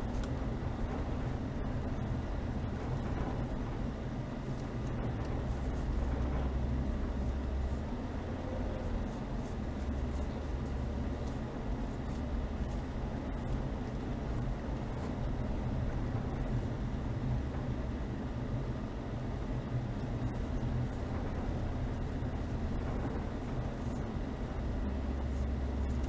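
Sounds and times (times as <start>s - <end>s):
car engine drone: 0.0s - 26.0s.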